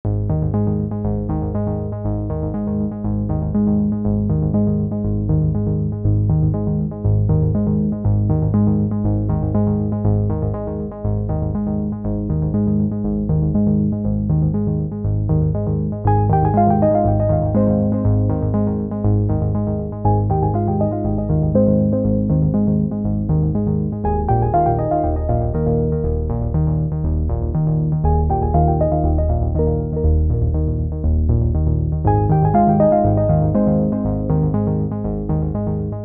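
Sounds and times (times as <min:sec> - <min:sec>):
synthesizer music with steady beat: 0:00.1 - 0:36.0.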